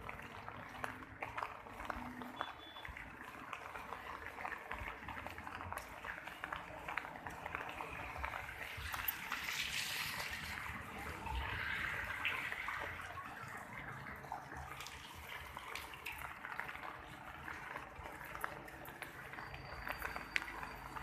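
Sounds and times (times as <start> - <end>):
rain splashing on hard surfaces: 0.0 - 21.0.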